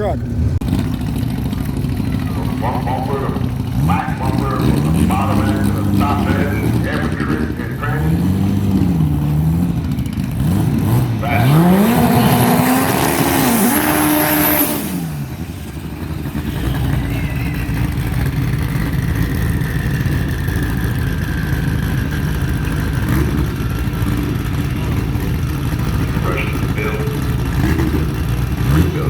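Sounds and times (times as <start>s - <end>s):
low engine rumble: 0.0s - 12.6s, 14.8s - 29.0s
car engine revving hard: 0.0s - 29.0s.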